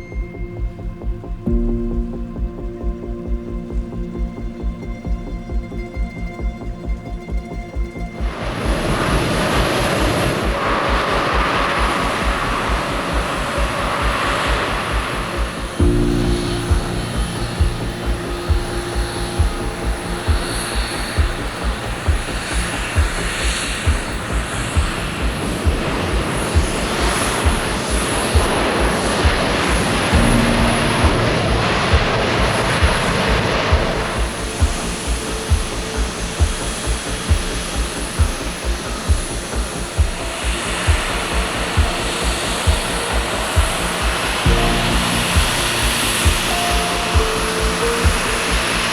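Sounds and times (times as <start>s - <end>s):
background music with low beat: 0.0s - 48.9s
jet engines roaring: 8.3s - 48.9s.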